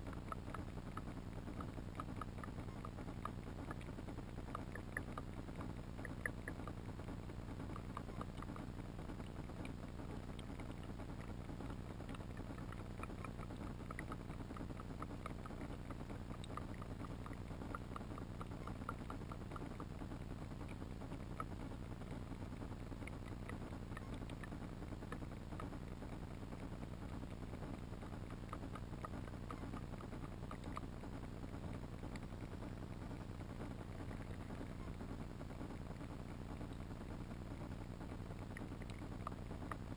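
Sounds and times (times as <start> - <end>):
faint scattered clicks: 0.0 - 39.9
underwater low rumble: 0.0 - 39.9.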